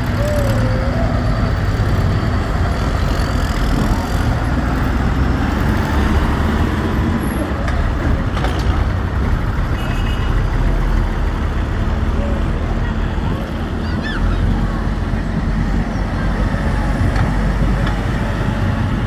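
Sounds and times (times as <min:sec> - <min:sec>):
road noise: 0:00.0 - 0:19.0
tractor engines rumbling: 0:00.0 - 0:19.0.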